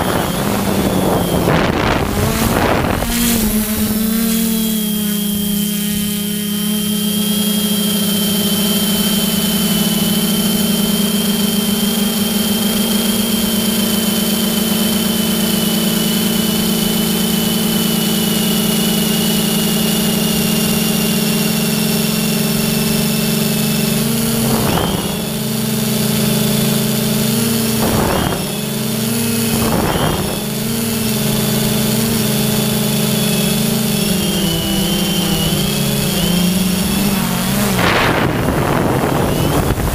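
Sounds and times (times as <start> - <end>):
aircraft motor and propeller whine: 0.0 - 39.9.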